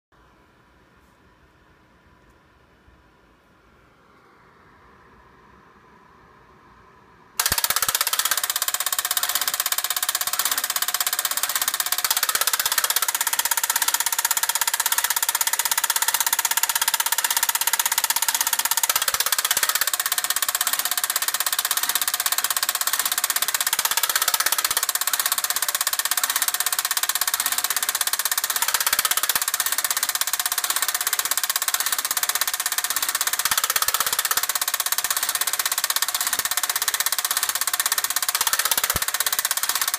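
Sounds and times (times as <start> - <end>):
punch machine clattering: 7.4 - 39.9.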